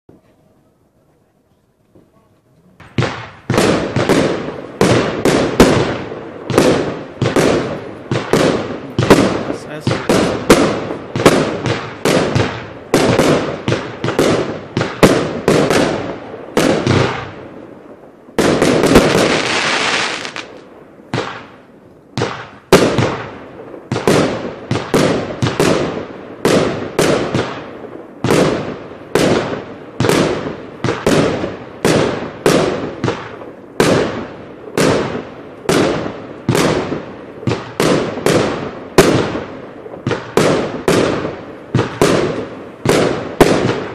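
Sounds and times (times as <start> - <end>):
firework shots banging: 2.8 - 43.9
firework hissing and crackling: 3.0 - 43.9.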